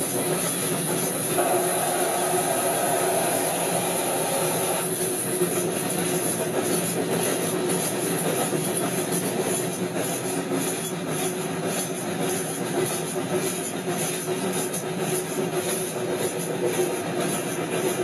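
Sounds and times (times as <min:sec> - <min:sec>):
railroad cars rumbling: 0:00.0 - 0:18.0.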